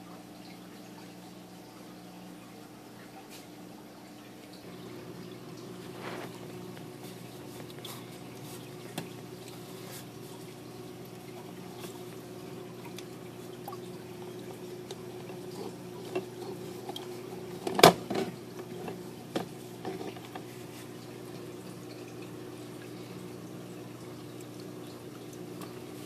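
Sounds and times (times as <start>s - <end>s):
water dripping and trickling: 0.0s - 26.0s.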